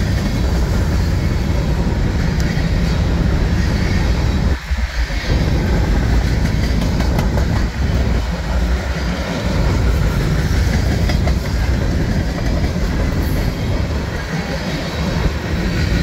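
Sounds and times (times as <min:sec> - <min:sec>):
freight train rumbling past: 0:00.0 - 0:16.0
wheels clicking over rail joints: 0:00.0 - 0:16.0.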